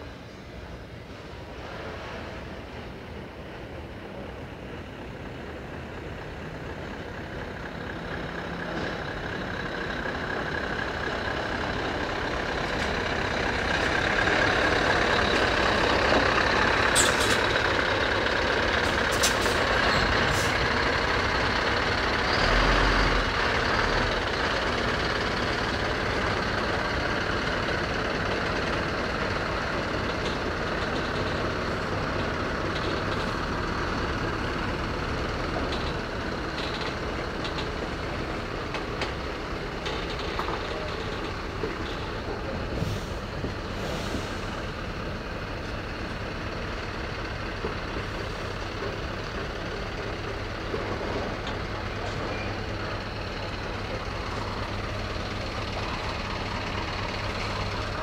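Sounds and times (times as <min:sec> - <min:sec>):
truck diesel engine passing: 0:05.3 - 0:58.0.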